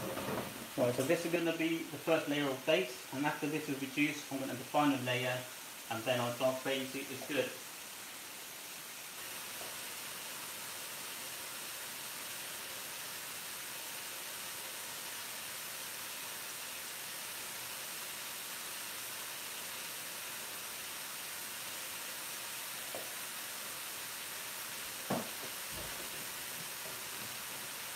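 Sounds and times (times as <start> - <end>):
sauce sizzling in a pan: 0.2 - 27.9.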